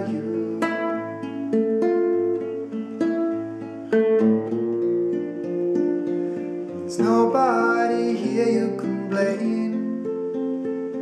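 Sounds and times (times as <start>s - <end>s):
classical guitar chords plucked: 0.0s - 11.0s.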